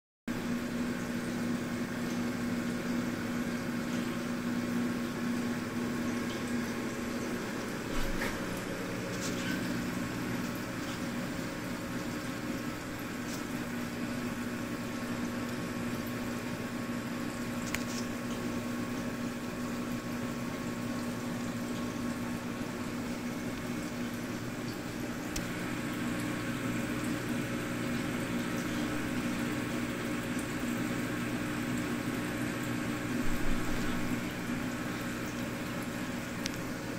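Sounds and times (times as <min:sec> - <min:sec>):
motor hum: 0:00.3 - 0:36.9.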